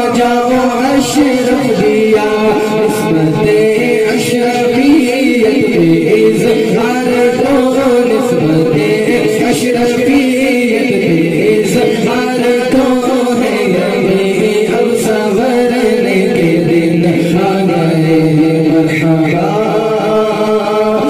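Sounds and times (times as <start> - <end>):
men chanting a hymn: 0.0 - 21.0.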